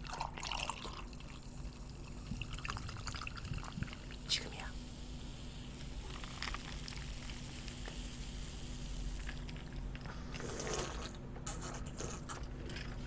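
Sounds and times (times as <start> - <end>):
soda pouring and fizzing: 0.0 - 11.2.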